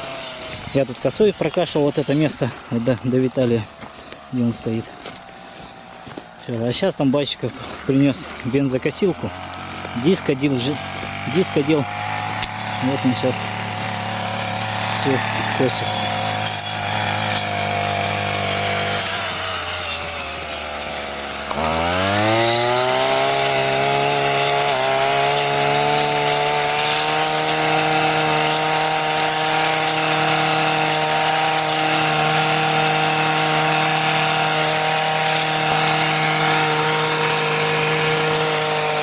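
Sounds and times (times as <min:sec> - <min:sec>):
brush cutter engine revving: 0:00.0 - 0:39.0
cutting through tall grass: 0:00.0 - 0:39.0.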